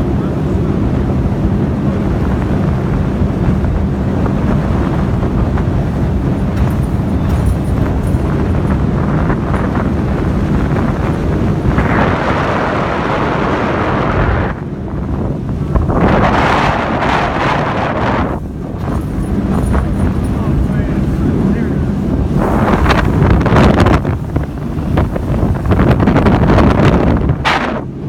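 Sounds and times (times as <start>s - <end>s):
boat and water rumble: 0.0s - 28.0s
wind buffeting microphone: 0.0s - 28.0s.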